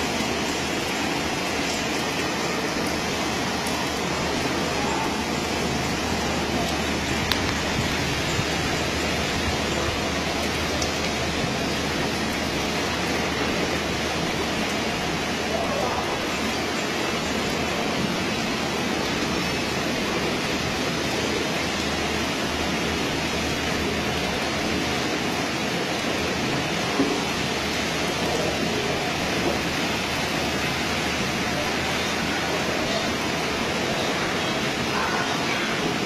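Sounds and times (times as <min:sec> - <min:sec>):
heavy rain and wind: 0:00.0 - 0:36.0.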